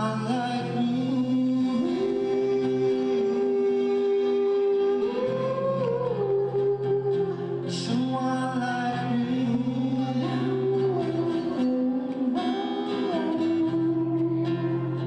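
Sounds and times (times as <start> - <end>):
acoustic guitars playing chords: 0.0 - 15.0
harmonica melody: 0.0 - 15.0.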